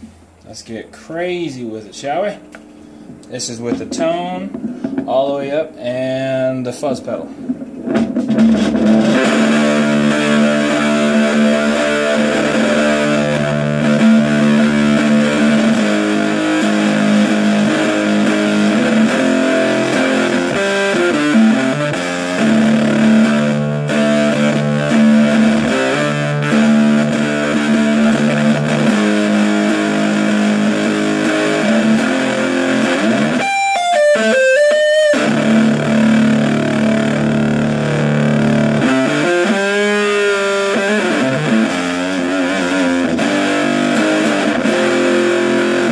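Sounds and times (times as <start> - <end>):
distorted electric guitar chords: 2.0 - 45.9.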